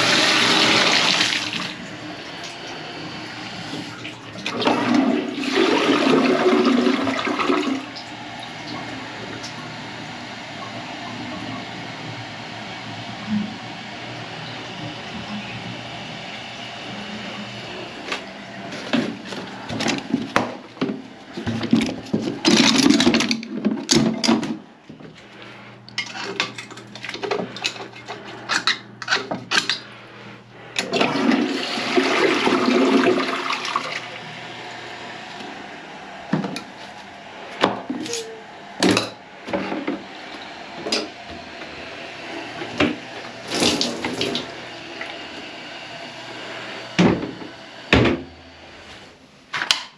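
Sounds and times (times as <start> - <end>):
toilet flushing: 0.0 - 25.2, 25.9 - 49.2.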